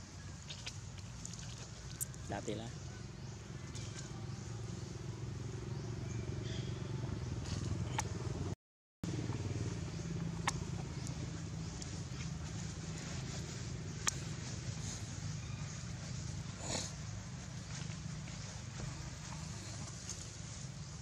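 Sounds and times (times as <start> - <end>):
small engine idling: 2.0 - 21.0.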